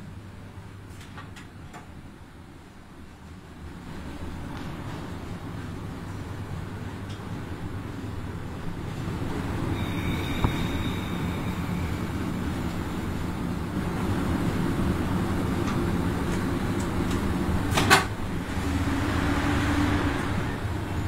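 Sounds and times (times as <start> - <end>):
locomotive cab drone: 2.0 - 21.0.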